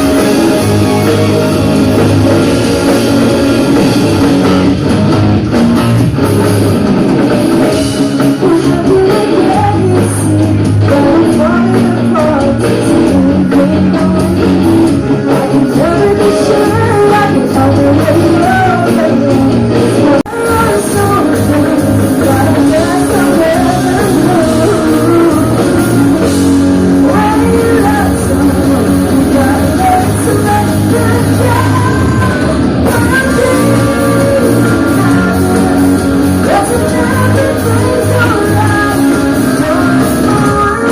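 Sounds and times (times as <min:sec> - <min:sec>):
lead vocal singing: 0:00.0 - 0:04.0, 0:08.0 - 0:40.9
bass guitar: 0:00.0 - 0:40.9
drums: 0:00.0 - 0:40.9
electric guitar: 0:00.0 - 0:40.9.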